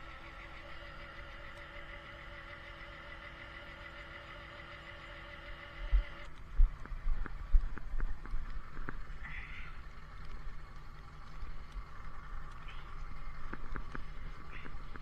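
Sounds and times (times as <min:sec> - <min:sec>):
mechanical whine with held tones: 0:00.0 - 0:15.0.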